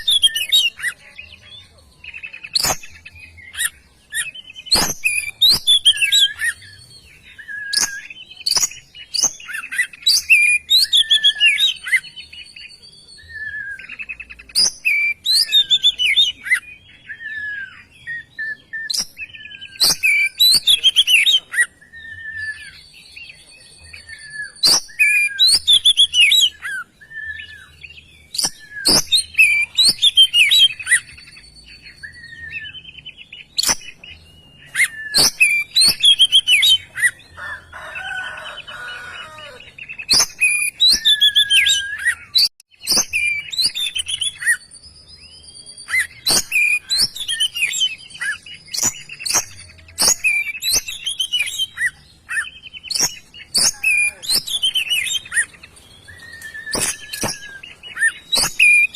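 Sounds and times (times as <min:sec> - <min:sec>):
bird singing whistles and trills: 0:00.0 - 0:37.4, 0:39.6 - 0:58.9.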